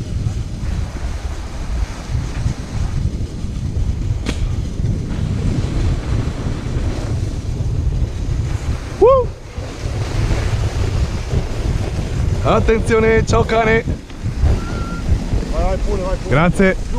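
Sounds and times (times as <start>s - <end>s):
sled sliding on snow: 0.0s - 16.9s
wind buffeting microphone: 0.0s - 16.9s.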